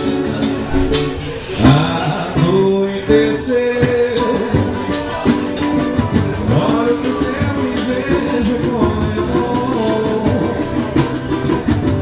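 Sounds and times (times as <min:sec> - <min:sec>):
hand drums: 0:00.0 - 0:12.0
man singing: 0:00.0 - 0:12.0
plucked guitar: 0:00.0 - 0:12.0.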